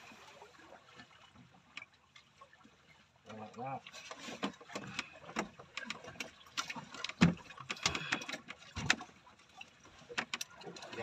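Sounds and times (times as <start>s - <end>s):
clicks and knocks on boat: 0.9s - 2.5s, 3.2s - 11.0s.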